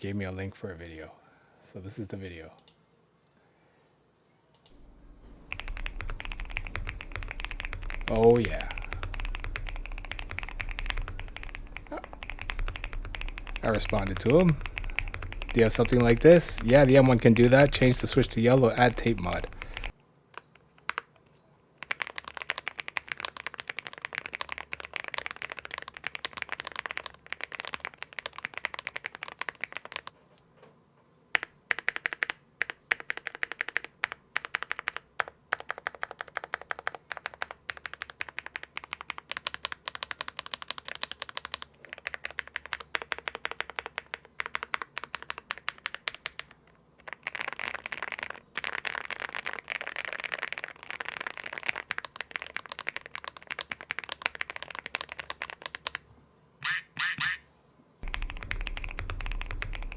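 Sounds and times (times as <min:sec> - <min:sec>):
mechanical keyboard typing: 0:04.7 - 0:21.2, 0:21.8 - 0:30.2, 0:31.3 - 0:56.0, 0:58.0 - 0:59.9.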